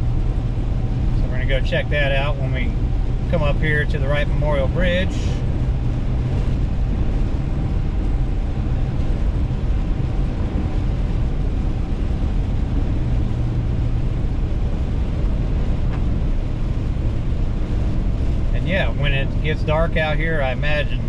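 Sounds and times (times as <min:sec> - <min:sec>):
car interior driving rumble: 0:00.0 - 0:21.0.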